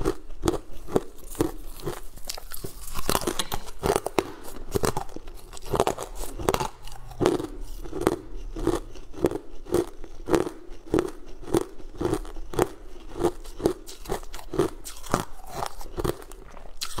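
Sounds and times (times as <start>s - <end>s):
person chewing candy crunchily: 0.0s - 17.0s.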